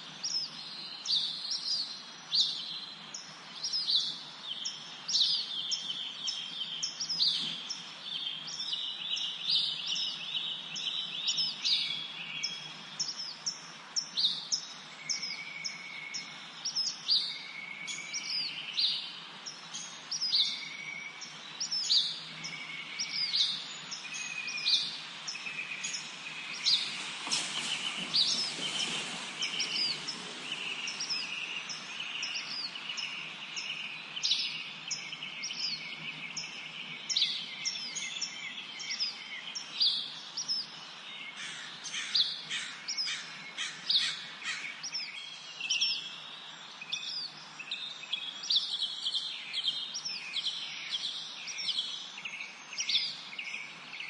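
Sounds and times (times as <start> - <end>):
songbirds chirping and trilling: 0.0 - 54.0
steady low hiss: 0.0 - 54.0.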